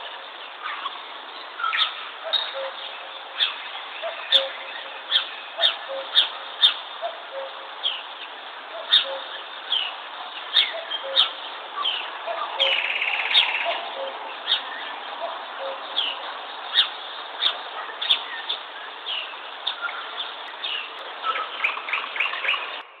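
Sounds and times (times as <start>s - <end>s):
cuckoo calling: 0.0s - 22.9s
songbirds chirping: 0.0s - 23.0s.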